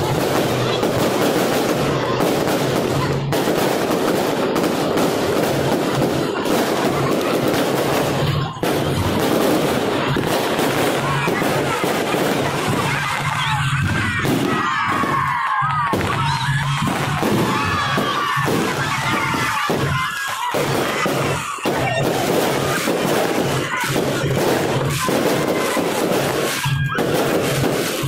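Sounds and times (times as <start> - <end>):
crowd voices: 0.0 - 28.0
fireworks bursting and crackling: 0.0 - 28.0.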